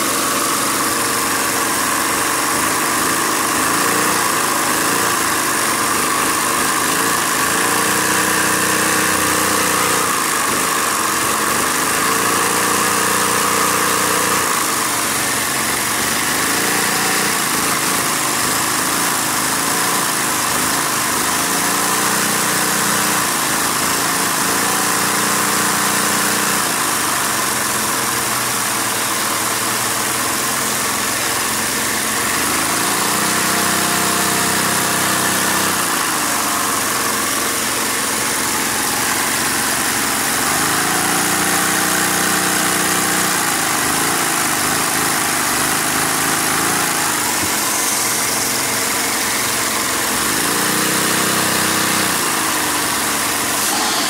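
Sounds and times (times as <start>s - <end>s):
toy vacuum engine revving: 0.0s - 54.0s
vacuum cleaner rushing: 0.0s - 54.0s.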